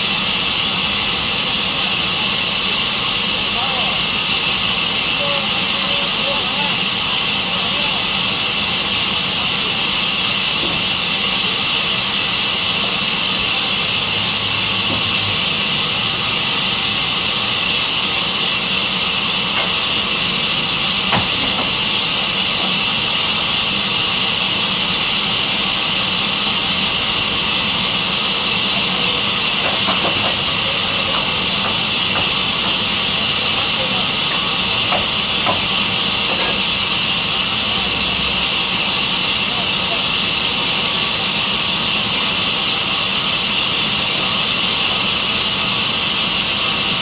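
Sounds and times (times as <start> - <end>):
sawmill machine hiss: 0.0 - 47.0.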